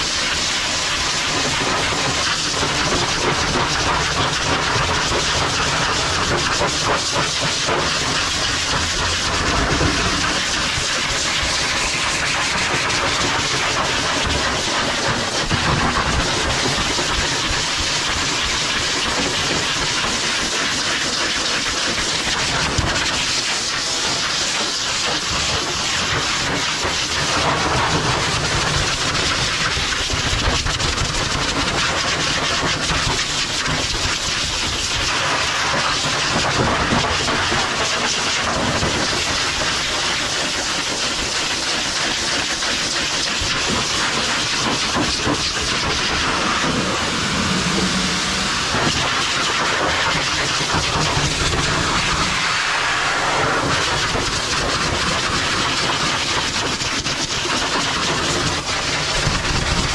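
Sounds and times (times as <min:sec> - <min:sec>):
pet dryer blowing air: 0:00.0 - 0:59.9.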